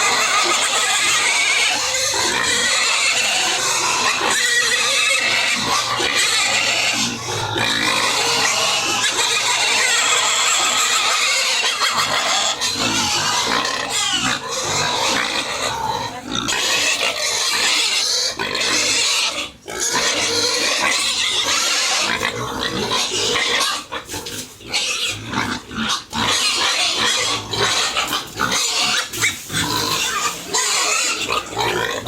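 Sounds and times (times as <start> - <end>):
pigs squealing loudly: 0.0 - 32.0.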